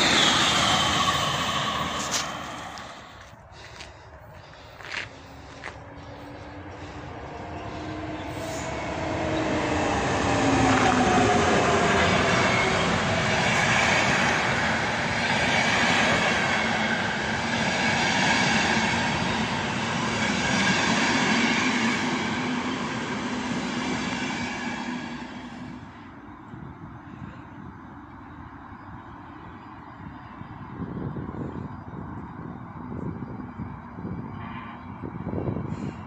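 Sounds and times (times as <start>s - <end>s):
electric train passing: 0.0s - 36.0s
train whine: 0.0s - 36.0s.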